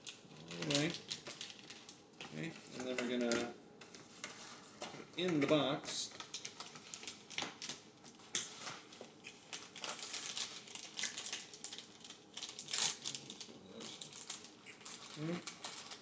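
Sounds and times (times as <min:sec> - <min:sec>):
plastic bag crinkling: 0:00.0 - 0:04.6, 0:05.2 - 0:16.0.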